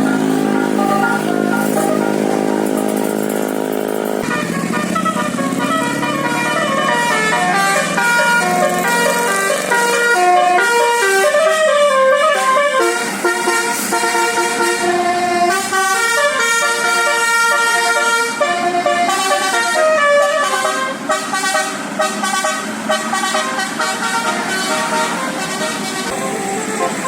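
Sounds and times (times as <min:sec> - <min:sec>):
musical air horn playing a tune: 0:00.0 - 0:27.0.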